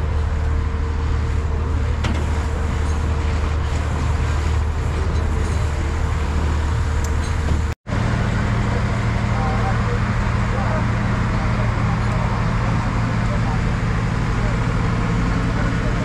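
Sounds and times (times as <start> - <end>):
constant hum: 0.0 - 16.0
road traffic rumble: 0.0 - 16.0.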